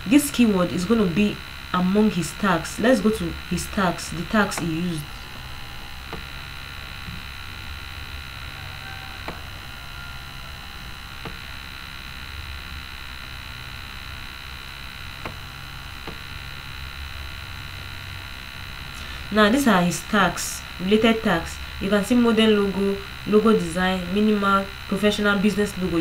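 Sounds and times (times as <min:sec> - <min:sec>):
electrical hum and hiss: 0:00.0 - 0:26.0.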